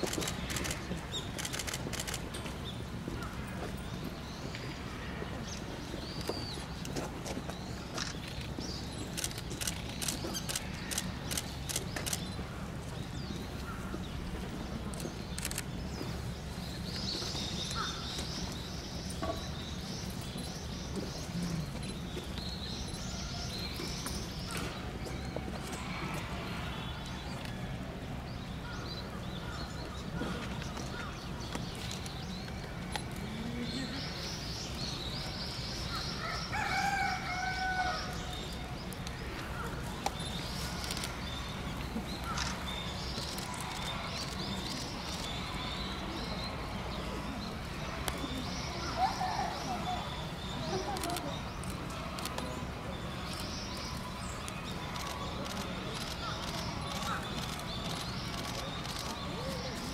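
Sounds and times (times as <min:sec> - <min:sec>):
small birds chirping: 0:00.0 - 0:27.5, 0:38.1 - 0:59.9.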